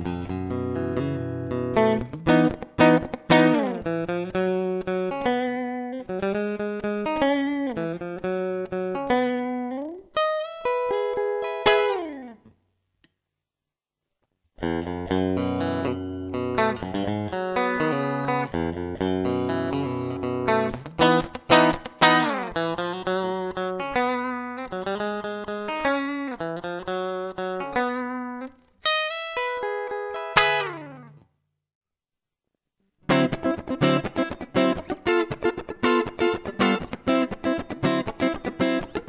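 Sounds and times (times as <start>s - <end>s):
electric guitar notes and chords: 0.0s - 12.4s, 14.6s - 31.2s, 33.0s - 39.0s.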